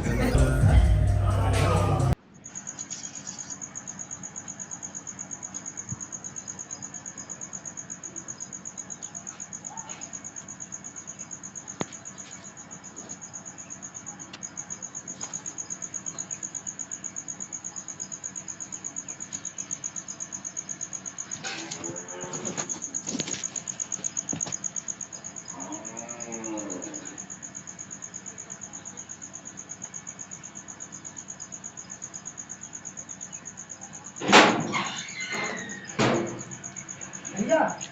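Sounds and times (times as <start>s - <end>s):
cricket chirping: 2.1s - 37.9s.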